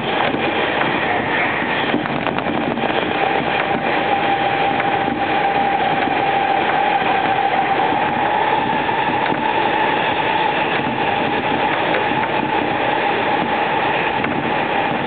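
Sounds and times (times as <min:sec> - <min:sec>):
thin train whine: 0:00.0 - 0:15.0
train wheels rumbling on rails: 0:00.0 - 0:15.0.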